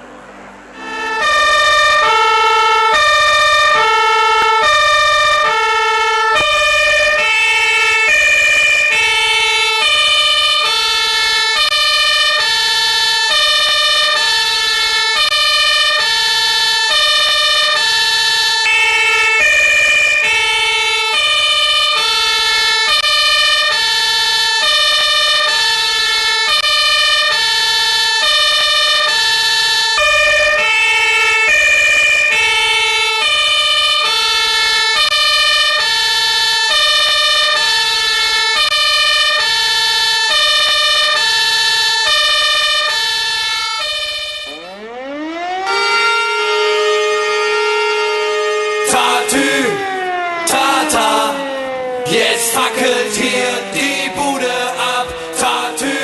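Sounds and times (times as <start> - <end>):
two-tone fire engine siren: 0.0 - 56.0.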